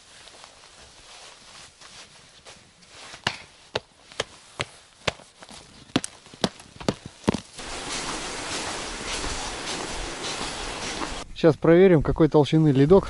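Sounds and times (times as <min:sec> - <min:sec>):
boots crunching on frozen snow: 0:00.0 - 0:11.2.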